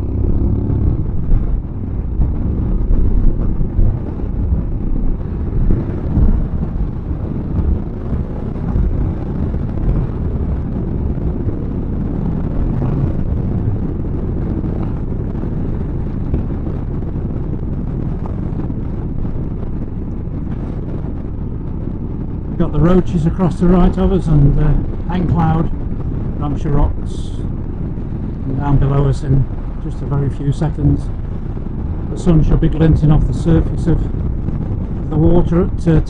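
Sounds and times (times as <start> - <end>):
motorcycle engine running: 0.0 - 36.0
wind rumbling over microphone: 0.0 - 36.0.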